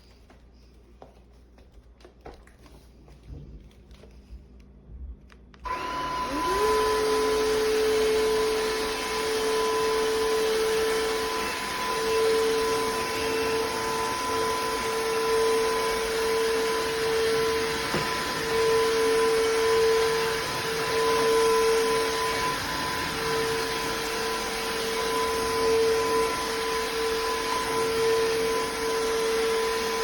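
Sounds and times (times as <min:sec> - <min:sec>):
floor vacuum motor whine: 0:00.0 - 0:30.0.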